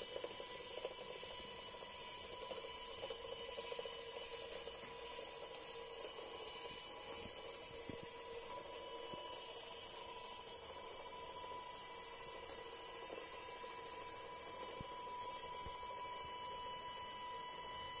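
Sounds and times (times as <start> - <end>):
small electric motor whining: 0.0 - 18.0.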